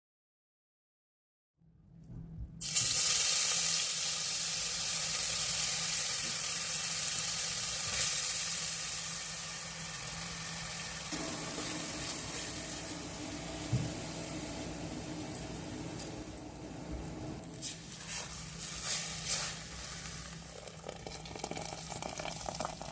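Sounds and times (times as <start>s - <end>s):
food sizzling in hot oil: 2.6s - 22.9s.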